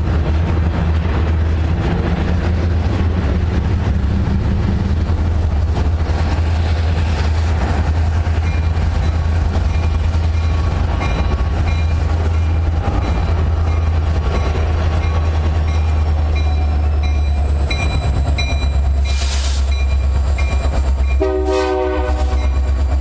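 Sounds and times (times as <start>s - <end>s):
diesel locomotive rumble: 0.0s - 23.0s
train wheels on rail: 0.0s - 23.0s.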